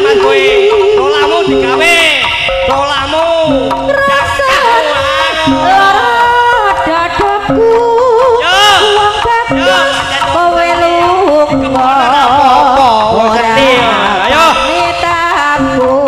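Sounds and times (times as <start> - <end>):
drum strokes: 0.0 - 16.0
wavering high melody: 0.0 - 16.0.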